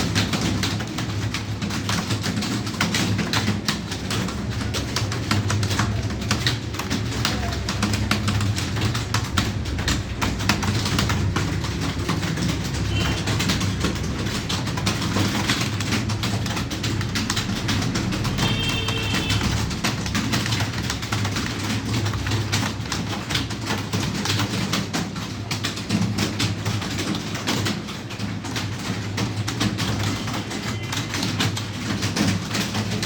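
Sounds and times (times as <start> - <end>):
fast typing on keyboard: 0.0 - 33.0.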